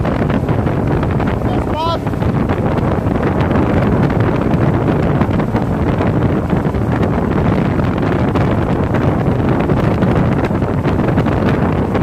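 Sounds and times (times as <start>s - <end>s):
motorboat engine rumble: 0.0s - 12.0s
wind buffeting microphone: 0.0s - 12.0s.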